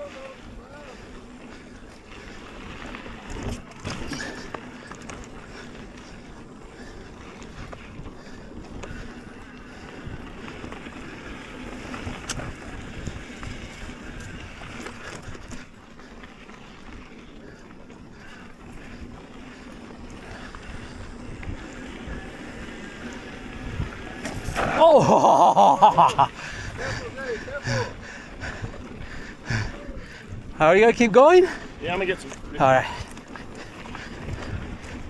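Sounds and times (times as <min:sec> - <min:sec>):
bike knocking and rattling: 0:00.0 - 0:35.0
bike tyres rumbling over dirt: 0:00.0 - 0:35.0
wind buffeting microphone: 0:00.3 - 0:35.0.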